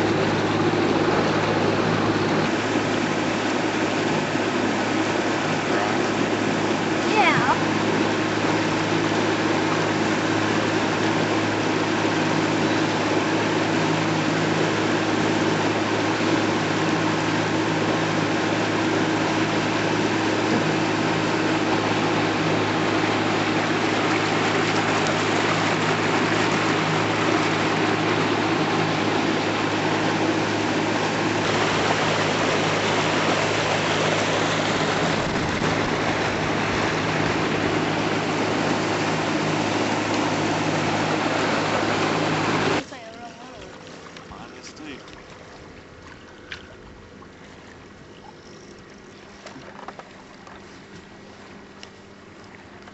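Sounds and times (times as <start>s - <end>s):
outboard motor humming: 0.0s - 52.9s
wind and water rushing: 0.0s - 52.9s.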